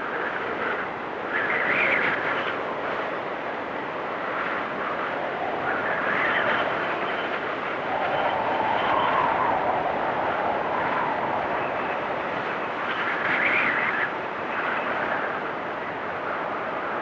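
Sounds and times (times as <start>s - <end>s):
wind blowing in gusts: 0.0s - 17.0s.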